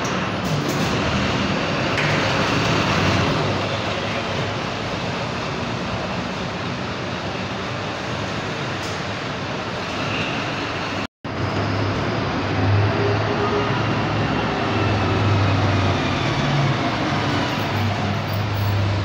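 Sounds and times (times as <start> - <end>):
diesel bus engines running: 0.0 - 19.0.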